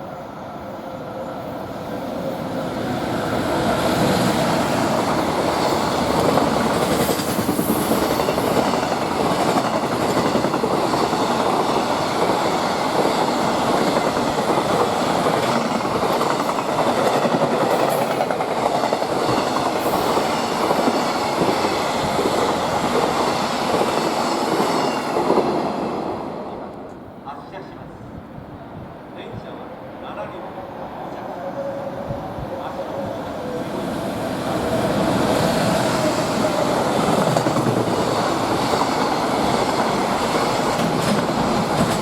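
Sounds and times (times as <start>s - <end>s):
freight train wheels rolling: 2.1s - 27.1s, 30.8s - 42.0s.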